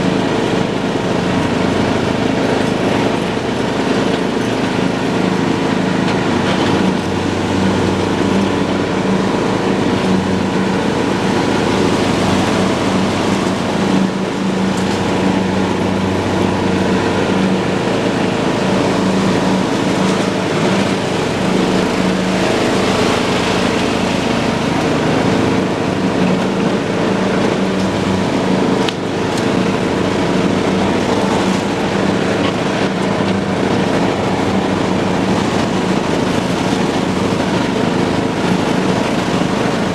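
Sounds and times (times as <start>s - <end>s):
lawn tractor engine running: 0.0s - 39.9s
mower deck whirring: 0.0s - 39.9s.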